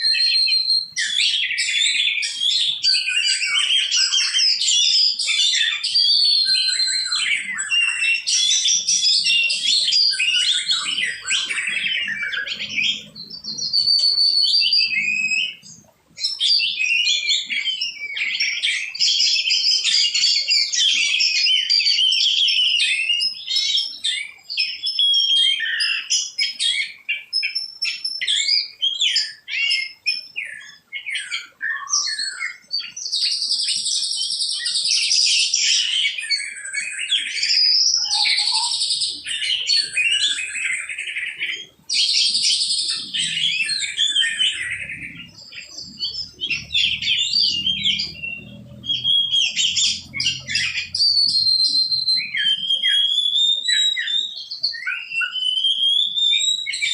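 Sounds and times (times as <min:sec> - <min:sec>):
bird singing: 0:00.0 - 0:56.9.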